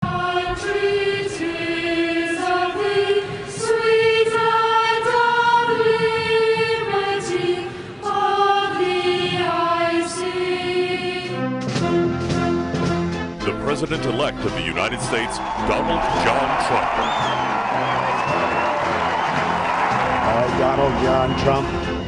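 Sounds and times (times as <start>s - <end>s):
choir singing long notes: 0.0s - 11.6s, 14.7s - 22.0s.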